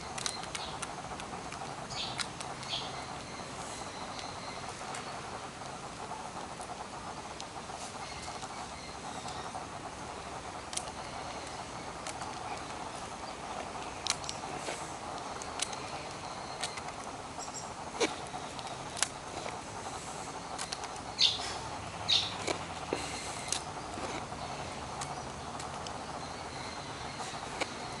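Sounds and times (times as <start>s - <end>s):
outdoor background hum: 0.0s - 28.0s.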